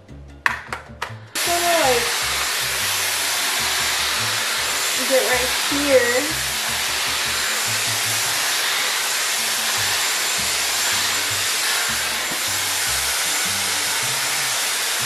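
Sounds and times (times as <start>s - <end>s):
background music with bass line: 0.0s - 8.5s, 9.3s - 14.6s
hair styler blowing air: 1.4s - 15.0s.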